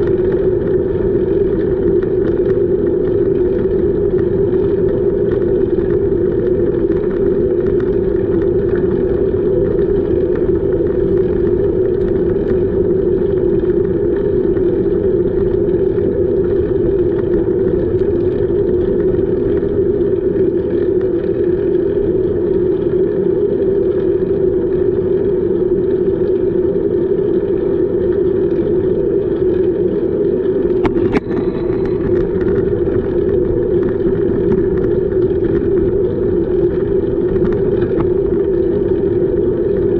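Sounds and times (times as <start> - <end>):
bicycle riding noise: 0.0 - 39.9.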